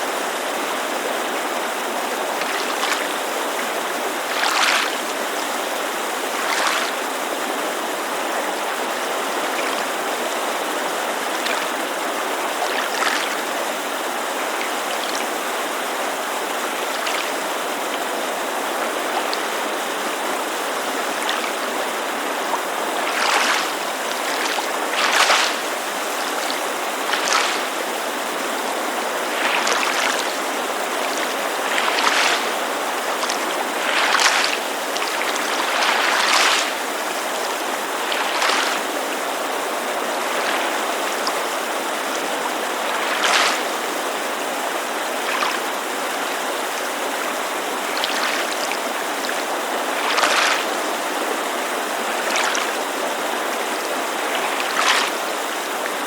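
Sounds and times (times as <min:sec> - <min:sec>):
creek water rushing: 0:00.0 - 0:56.0
waves lapping on shore: 0:00.0 - 0:56.0.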